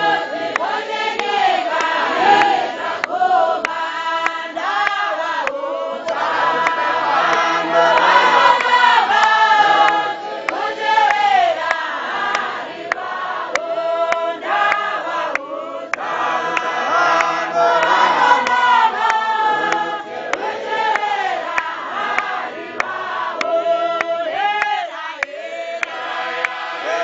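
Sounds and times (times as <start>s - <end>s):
congregation singing a hymn: 0.0s - 27.0s.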